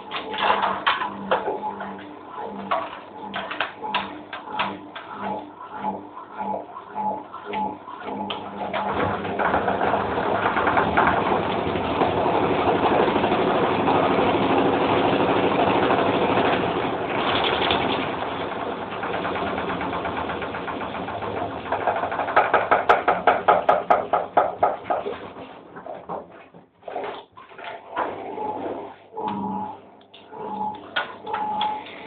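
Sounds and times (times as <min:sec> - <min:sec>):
washing machine spinning: 0:00.0 - 0:32.0.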